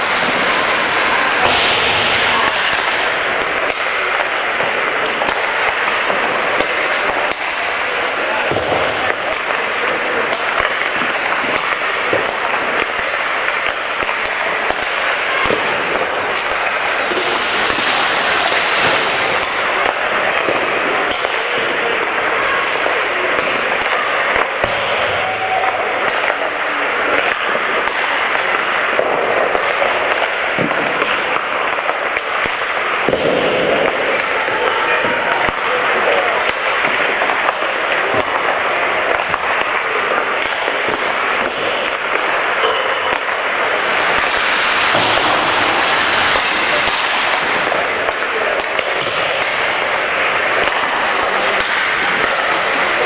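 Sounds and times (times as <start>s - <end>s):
hockey sticks and puck clacking: 0.0s - 53.0s
indistinct voices: 0.0s - 53.0s.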